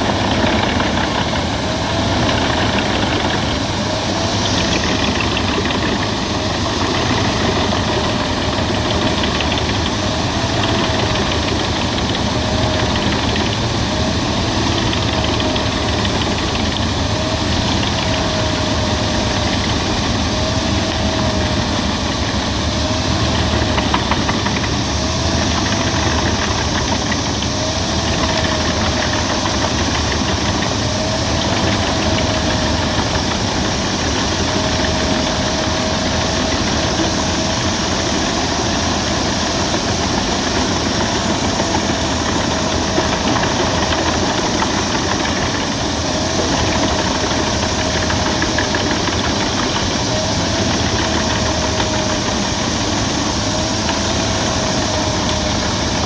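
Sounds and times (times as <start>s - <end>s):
wood chipper running: 0.0s - 56.0s.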